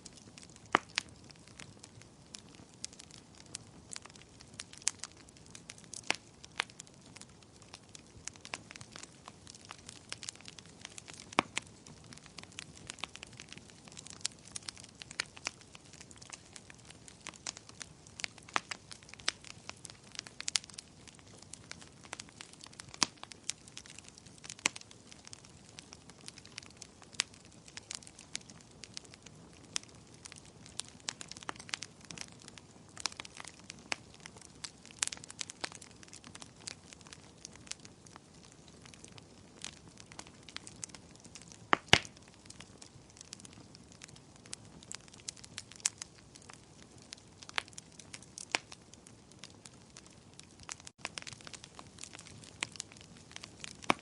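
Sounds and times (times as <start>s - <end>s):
fire crackling and snapping: 0.0s - 54.0s
soft steady hiss: 0.0s - 54.0s.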